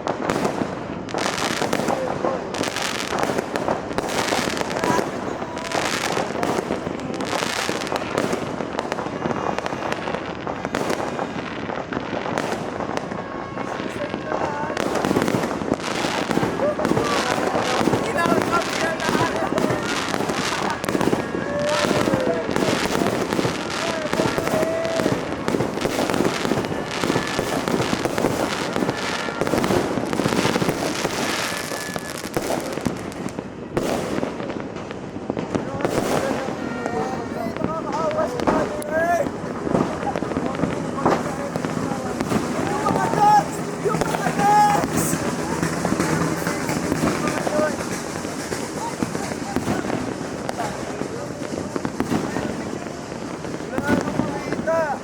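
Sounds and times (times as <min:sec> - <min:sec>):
fireworks crackling and popping: 0:00.0 - 0:55.0.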